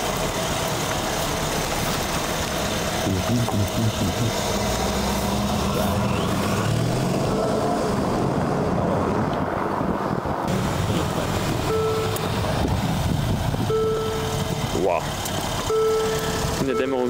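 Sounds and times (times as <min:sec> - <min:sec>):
rushing noise: 0:00.0 - 0:16.8
car engine accelerating: 0:00.0 - 0:17.0.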